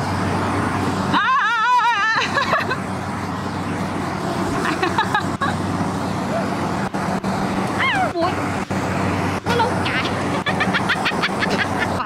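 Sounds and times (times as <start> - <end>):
combine harvester engine humming: 0.0 - 12.0.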